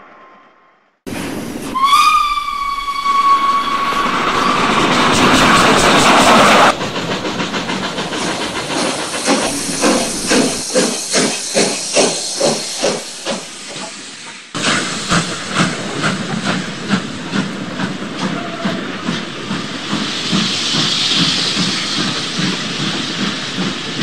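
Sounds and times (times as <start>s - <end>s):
model steam locomotive chuffing: 1.3s - 24.0s.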